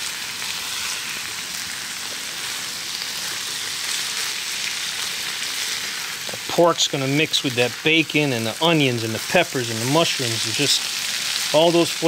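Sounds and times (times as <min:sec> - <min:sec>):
meat and vegetables sizzling in a pan: 0:00.0 - 0:12.0.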